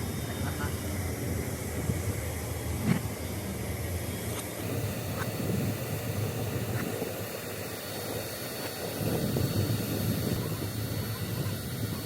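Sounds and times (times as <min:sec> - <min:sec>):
jet aircraft rumble: 0:00.0 - 0:12.0
thin high whine: 0:00.0 - 0:12.0.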